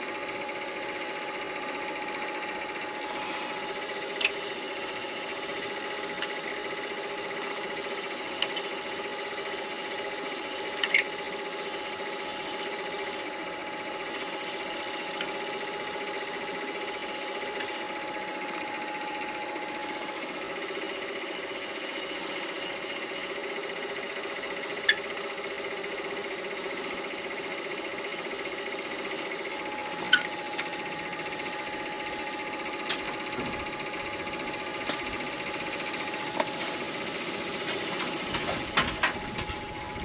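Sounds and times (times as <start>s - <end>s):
lathe motor hum: 0.0s - 40.0s.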